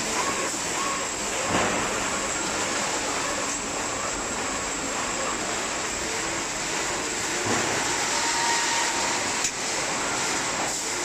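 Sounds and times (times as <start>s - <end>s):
faint machine whine: 0.0s - 11.0s
industrial machinery noise: 0.0s - 11.0s.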